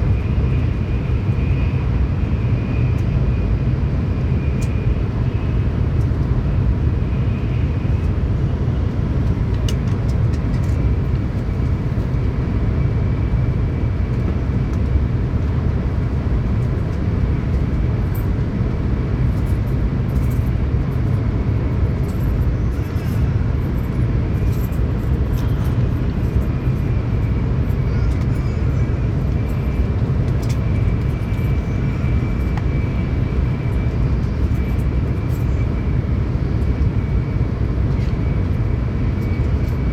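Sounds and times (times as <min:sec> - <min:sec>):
train wheels and air rumbling: 0:00.0 - 0:39.9.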